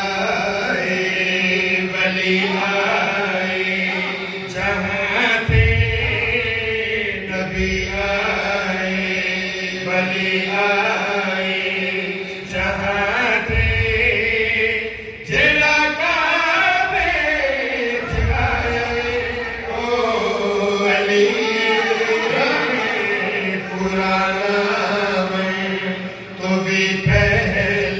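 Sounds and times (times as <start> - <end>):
man chanting: 0.0 - 27.9.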